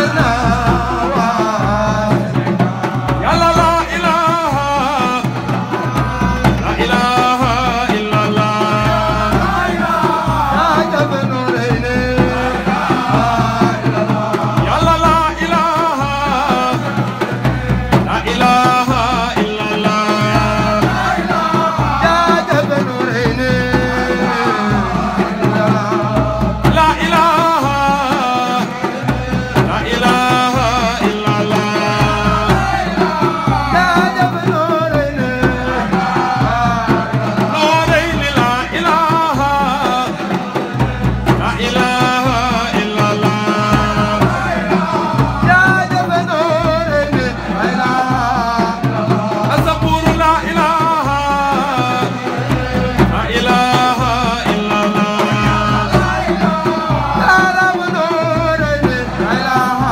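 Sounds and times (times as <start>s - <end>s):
man singing into a microphone: 0.0s - 59.9s
steady low drum beat: 0.0s - 59.9s.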